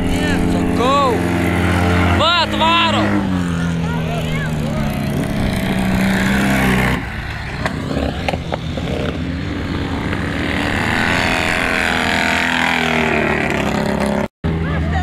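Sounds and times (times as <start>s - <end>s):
motorcycle engines running hard: 0.0s - 15.0s.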